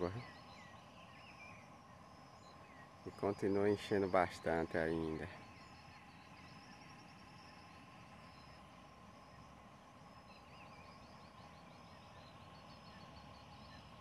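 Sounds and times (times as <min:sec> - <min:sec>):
bird chirps and trills: 0:00.0 - 0:14.0
low steady rumble: 0:00.0 - 0:14.0.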